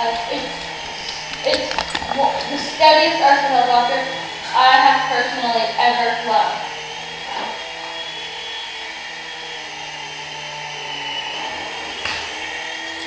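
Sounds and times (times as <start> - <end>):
toy helicopter rotors whining: 0.0 - 13.0.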